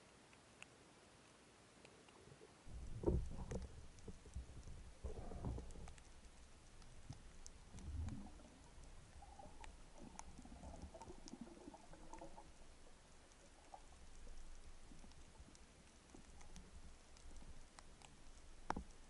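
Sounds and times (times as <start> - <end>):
small sharp underwater clicks: 0.0 - 19.0
muffled underwater water rumbles: 2.7 - 19.0.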